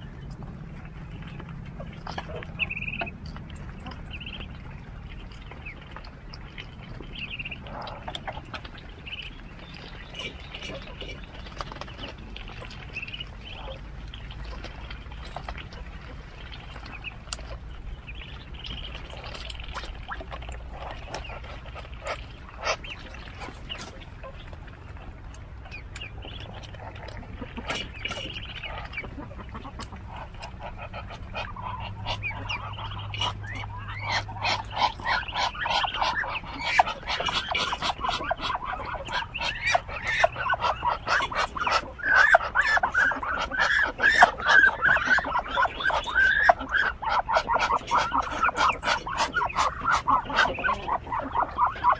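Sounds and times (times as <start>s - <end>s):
ducklings peeping: 0.0s - 51.9s
wet clicks and rustles: 0.0s - 51.9s.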